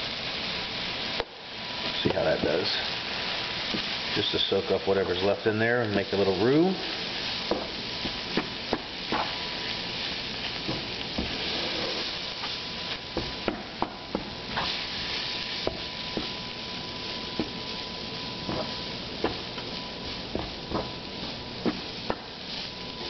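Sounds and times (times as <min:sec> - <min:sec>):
sausage and flour sizzling in a pan: 0:00.0 - 0:23.0.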